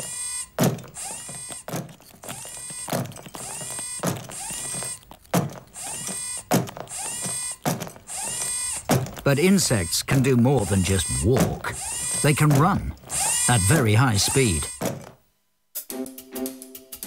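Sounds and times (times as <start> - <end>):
robot motors whirring: 0.0 - 15.1.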